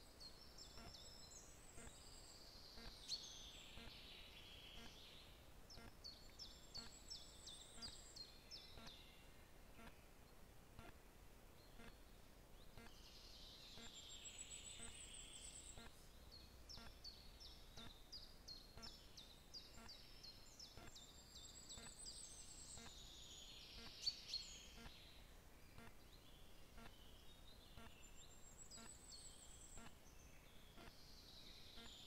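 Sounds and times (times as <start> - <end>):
faint birdsong: 0.0 - 32.0
faint steady hiss: 0.0 - 32.0.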